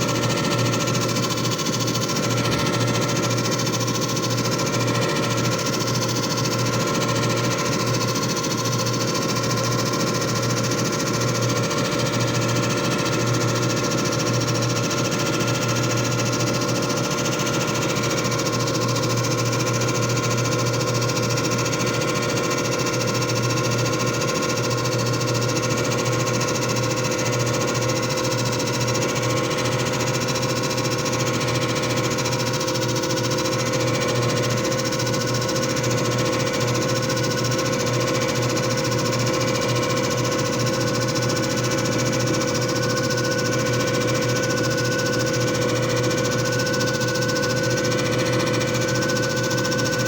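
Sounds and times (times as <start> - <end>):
machine motor hum: 0.0 - 21.8, 26.5 - 50.0.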